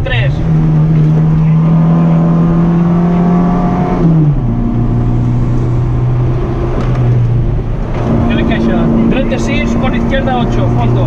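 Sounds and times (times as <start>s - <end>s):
race car engine from cockpit: 0.0s - 11.0s.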